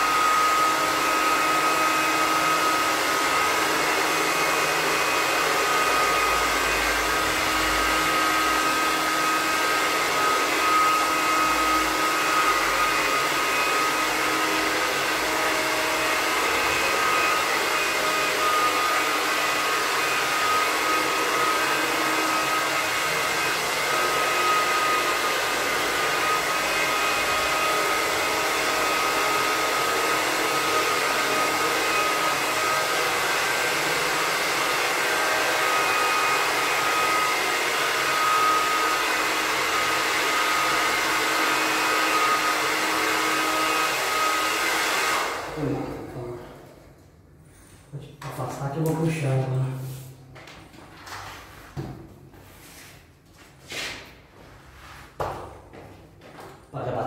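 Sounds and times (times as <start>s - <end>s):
hot-air blower running: 0.0s - 50.6s.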